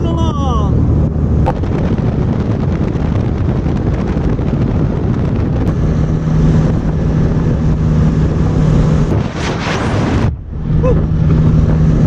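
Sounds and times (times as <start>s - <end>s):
car engine and road noise: 0.0s - 12.0s
wind noise on microphone: 0.0s - 12.0s.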